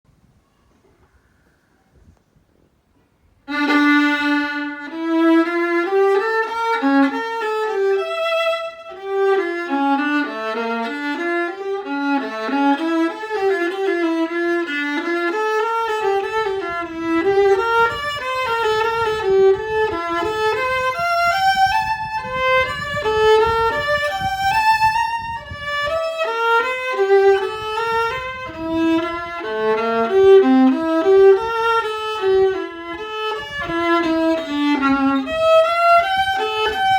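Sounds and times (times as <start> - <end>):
solo violin melody: 3.4 - 36.9.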